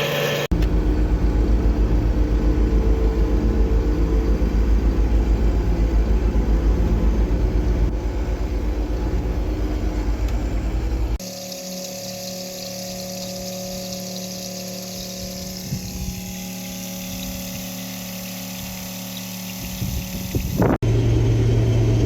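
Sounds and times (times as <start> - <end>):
low engine hum: 0.0 - 11.2, 12.7 - 22.0
machine hum with held tones: 0.0 - 22.0.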